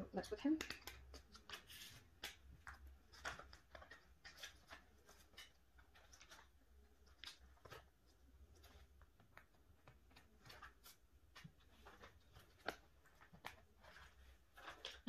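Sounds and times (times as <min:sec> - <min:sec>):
plastic binder sleeves crinkling: 0:00.5 - 0:15.0.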